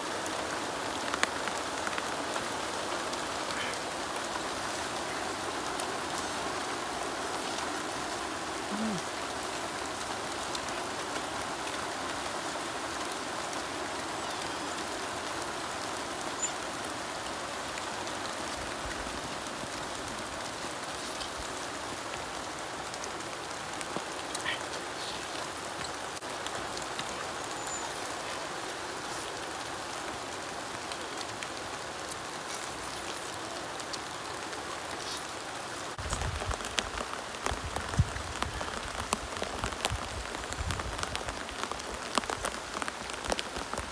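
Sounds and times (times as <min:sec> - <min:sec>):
outdoor background hiss: 0:00.0 - 0:43.9.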